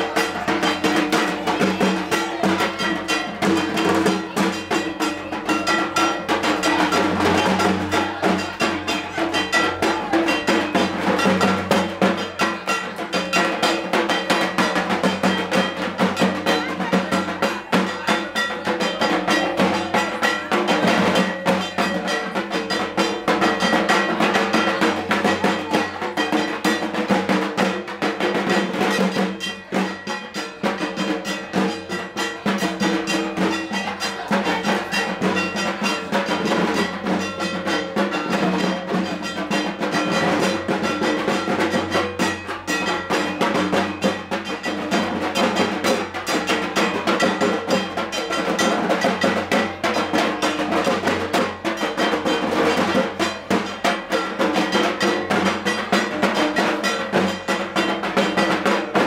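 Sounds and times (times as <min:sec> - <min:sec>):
drums beaten fast: 0:00.0 - 0:59.0.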